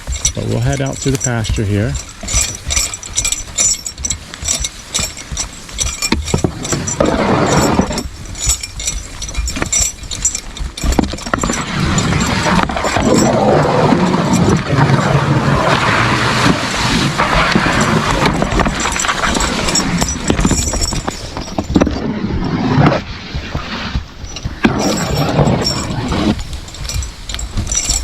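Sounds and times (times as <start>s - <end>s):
harness chains clinking: 0.0s - 22.1s, 23.5s - 28.0s.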